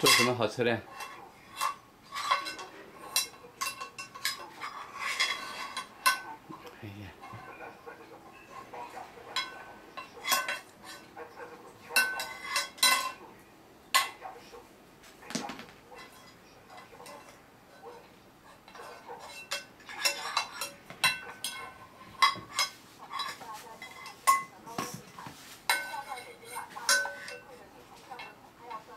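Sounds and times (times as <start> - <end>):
utensils clinking in a saucepan: 0.0 - 6.6, 8.3 - 11.2, 11.8 - 13.2, 15.9 - 28.9.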